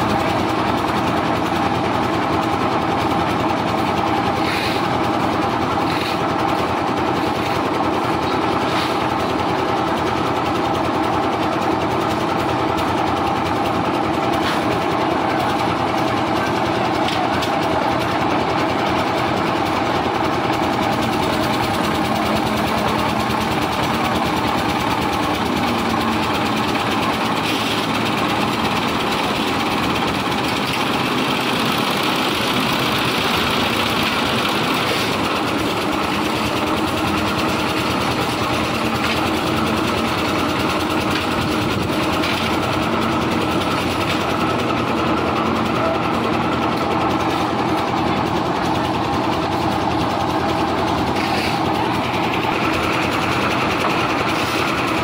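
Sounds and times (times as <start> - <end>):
concrete mixer drone: 0.0 - 55.0.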